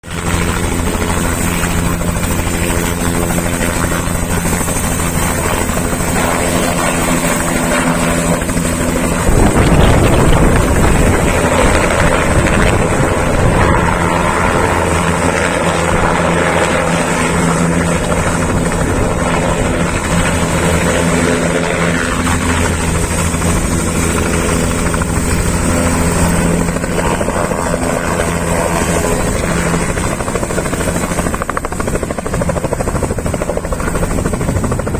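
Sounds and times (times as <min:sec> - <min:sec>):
helicopter rotor drone: 0:00.0 - 0:34.9.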